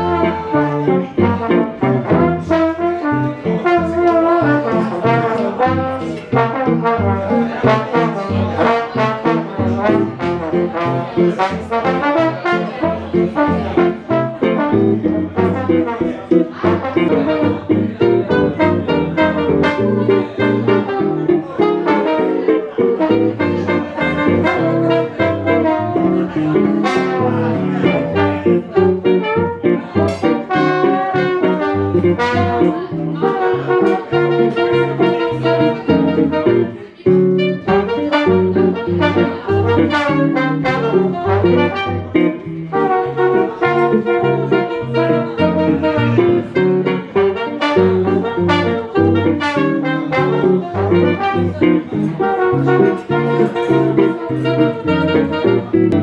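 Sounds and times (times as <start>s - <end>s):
alto saxophone: 0.0s - 56.0s
guitar accompaniment: 0.0s - 56.0s
trombone: 0.0s - 56.0s.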